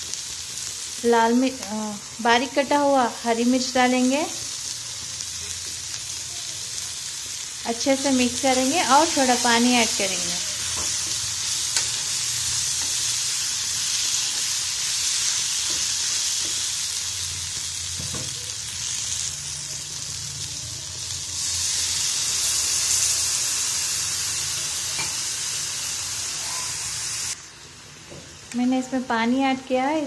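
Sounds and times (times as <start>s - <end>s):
meat sizzling in a frying pan: 0.0s - 30.0s.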